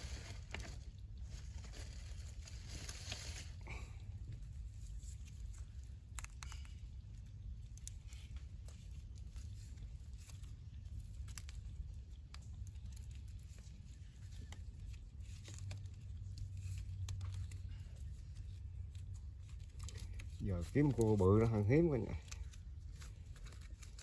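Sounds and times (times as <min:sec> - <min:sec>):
light clicks and rustles: 0:00.0 - 0:24.0
steady low rumble: 0:00.0 - 0:24.0.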